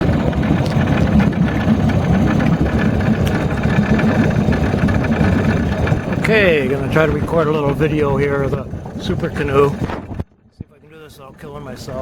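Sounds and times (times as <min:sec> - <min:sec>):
outboard motor running: 0:00.0 - 0:10.4.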